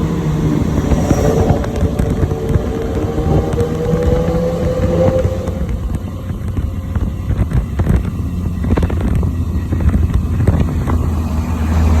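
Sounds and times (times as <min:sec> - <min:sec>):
exhaust popping and crackling: 0:00.0 - 0:12.0
motorcycle engine droning: 0:00.0 - 0:12.0.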